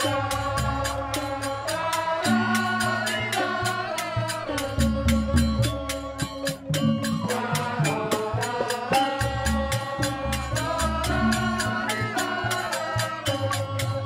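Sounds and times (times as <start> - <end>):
bamboo xylophones struck with mallets: 0.0 - 14.0
hand drumming: 0.0 - 14.0
person singing: 0.0 - 14.0.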